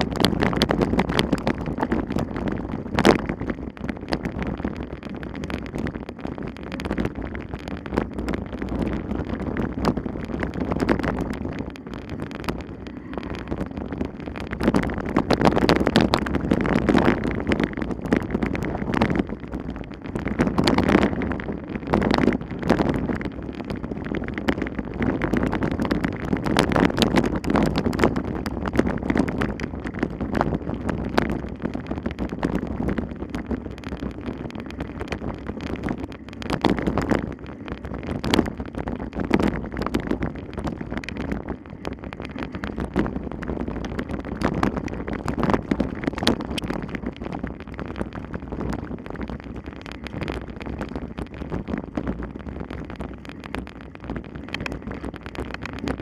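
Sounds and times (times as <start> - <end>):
sharp clicks and rattles: 0.0 - 56.0
wind rushing over microphone: 0.0 - 56.0.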